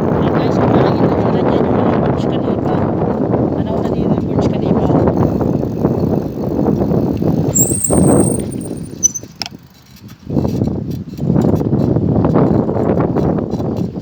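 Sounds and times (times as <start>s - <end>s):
wind buffeting microphone: 0.0s - 9.4s, 10.1s - 14.0s.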